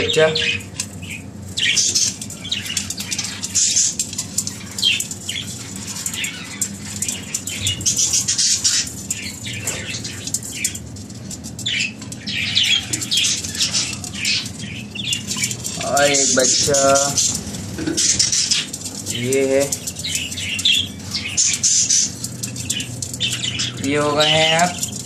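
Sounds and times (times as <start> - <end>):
budgerigars chirping: 0.0 - 10.8, 11.5 - 25.0.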